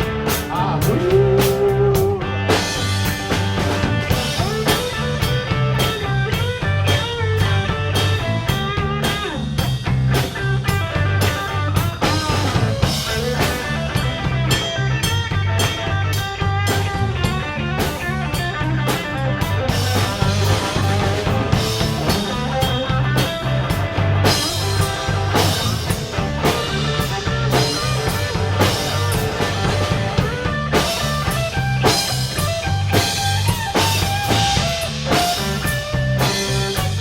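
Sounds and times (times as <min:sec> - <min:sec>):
bass guitar: 0:00.0 - 0:37.0
drum kit beat: 0:00.0 - 0:37.0
electric guitar lead: 0:00.0 - 0:37.0.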